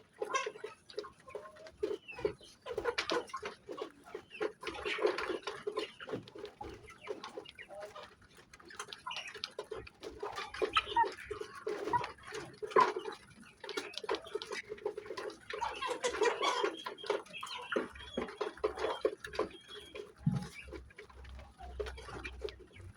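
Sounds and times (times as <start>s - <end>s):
hens clucking: 0.0s - 22.9s.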